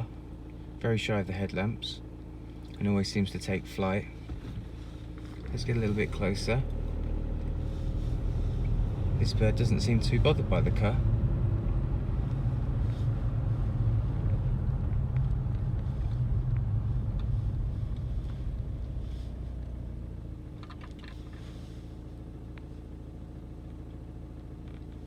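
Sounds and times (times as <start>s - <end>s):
car engine: 0.0s - 25.0s
road rumble: 0.0s - 25.0s.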